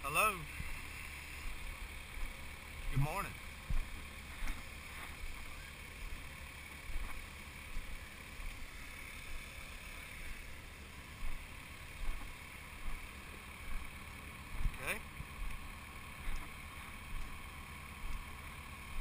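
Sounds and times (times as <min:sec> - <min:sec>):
excavator engines droning: 0:00.0 - 0:19.0.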